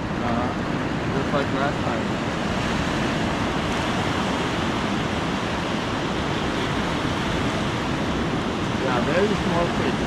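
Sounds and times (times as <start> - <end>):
surf washing on rocky shore: 0.0 - 10.0
wind on microphone: 0.0 - 10.0.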